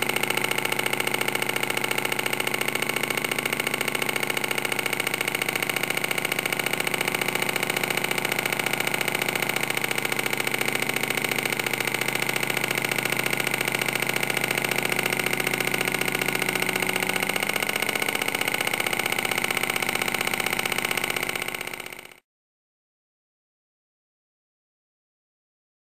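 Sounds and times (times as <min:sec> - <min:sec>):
model engine running: 0:00.0 - 0:22.2.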